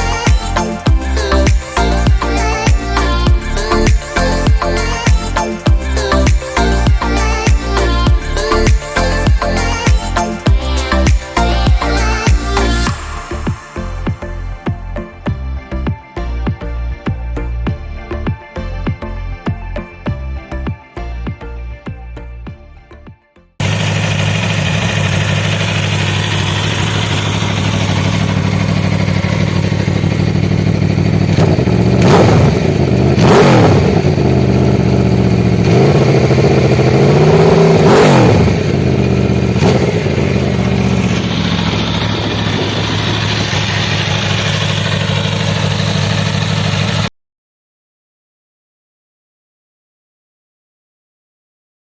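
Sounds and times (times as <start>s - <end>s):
motorcycle engine idling and revving: 0.0s - 20.2s, 23.6s - 47.1s.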